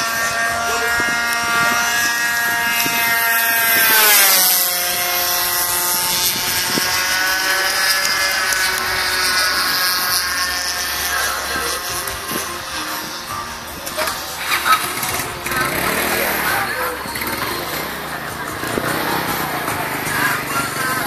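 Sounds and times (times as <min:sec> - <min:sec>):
model plane engine fly-past: 0:00.0 - 0:21.0.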